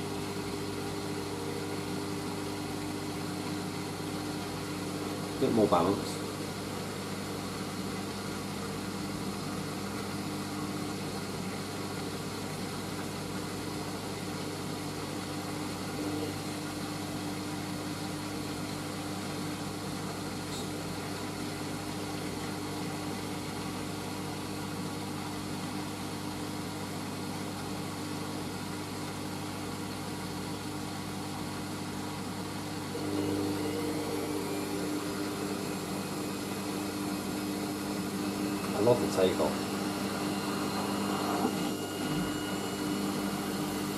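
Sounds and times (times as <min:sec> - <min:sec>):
washing machine motor running: 0:00.0 - 0:43.9.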